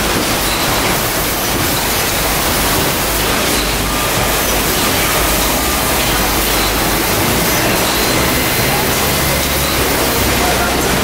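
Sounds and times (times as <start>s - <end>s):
packaging line machinery running: 0.0s - 11.0s
faint thin machine whines: 0.4s - 11.0s.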